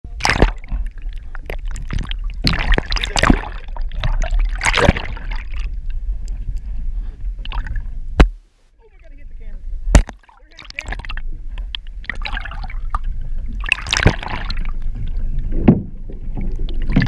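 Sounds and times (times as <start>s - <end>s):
underwater rumble of moving water: 0.0s - 17.0s
rushing bubbling water: 0.1s - 8.3s, 9.9s - 17.0s.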